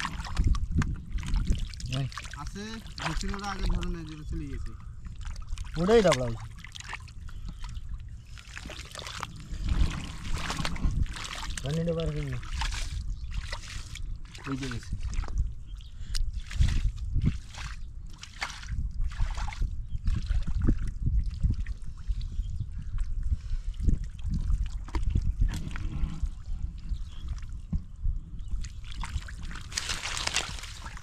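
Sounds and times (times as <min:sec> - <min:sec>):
hands sloshing in muddy water: 0:00.0 - 0:04.0, 0:05.1 - 0:27.6, 0:28.6 - 0:31.0.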